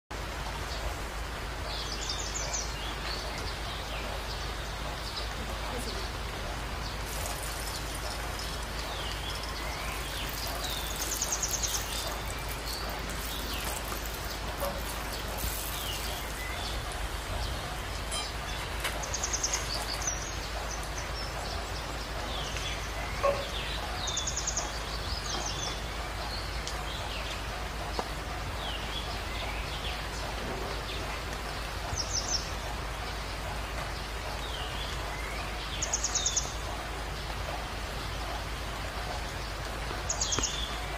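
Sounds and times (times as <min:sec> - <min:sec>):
steady hiss: 0:00.2 - 0:40.9.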